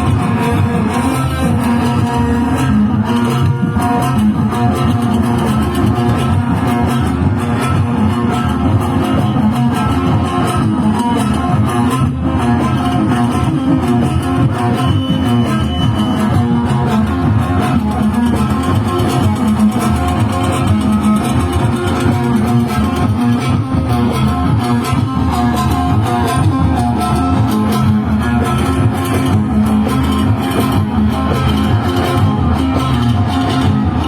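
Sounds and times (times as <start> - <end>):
band with plucked guitar and bass: 0.0 - 34.0.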